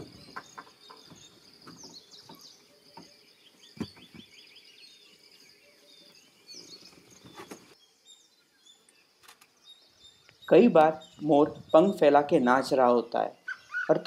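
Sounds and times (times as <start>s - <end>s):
faint insect ambience: 0.0s - 14.0s
small birds chirping: 0.0s - 14.0s.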